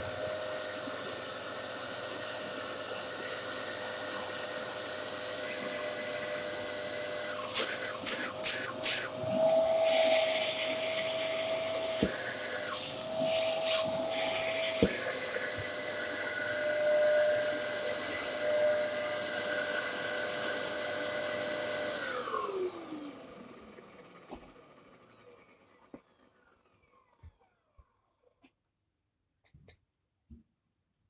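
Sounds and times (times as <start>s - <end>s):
vacuum cleaner running: 0.0s - 27.6s.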